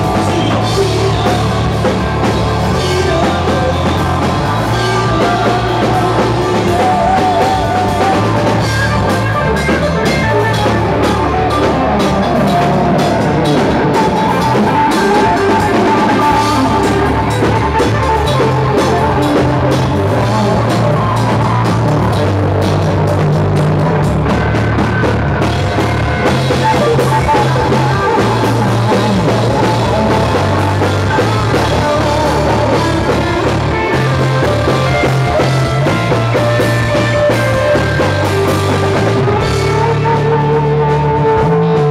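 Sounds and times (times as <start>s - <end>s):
bass guitar: 0.0s - 41.9s
drum kit: 0.0s - 41.9s
electric guitars: 0.0s - 41.9s.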